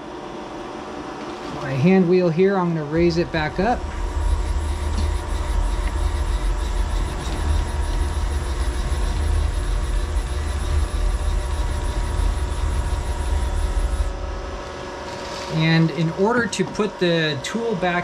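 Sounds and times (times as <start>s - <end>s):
machine drive rumbling and whining: 0.0s - 18.0s.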